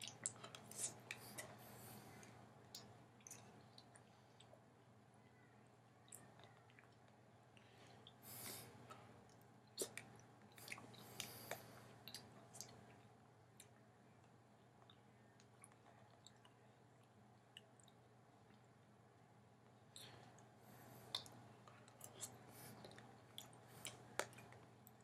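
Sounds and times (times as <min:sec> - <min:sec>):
soft wet chewing: 0:00.0 - 0:25.0.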